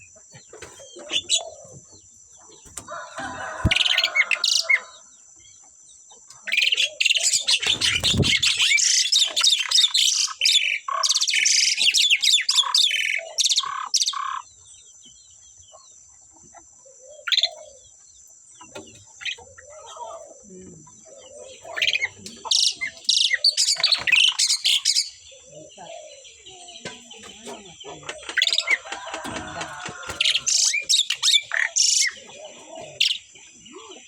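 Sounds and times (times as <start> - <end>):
starlings singing and chattering: 0.0 - 15.8, 16.9 - 34.0.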